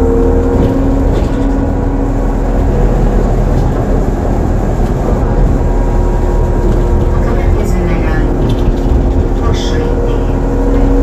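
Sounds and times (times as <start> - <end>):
trolleybus electric motor whine: 0.0 - 11.0
trolleybus running rumble: 0.0 - 11.0.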